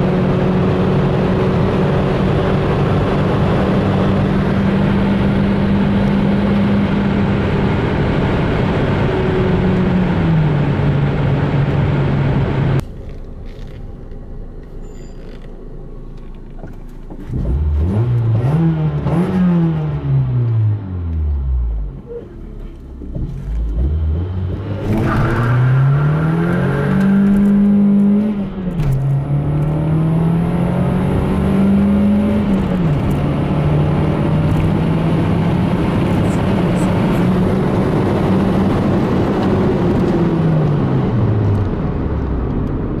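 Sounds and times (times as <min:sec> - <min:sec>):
car engine accelerating hard: 0:00.0 - 0:12.8, 0:17.1 - 0:43.0.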